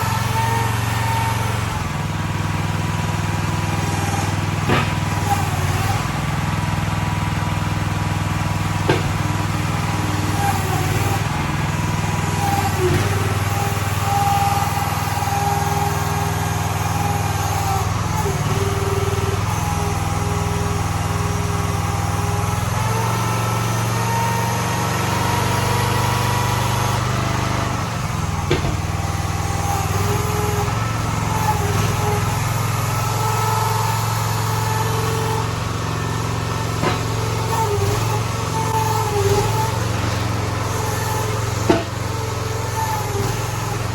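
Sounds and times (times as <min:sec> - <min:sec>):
hydraulic whine: 0:00.0 - 0:43.9
small gasoline engine running: 0:00.0 - 0:43.9.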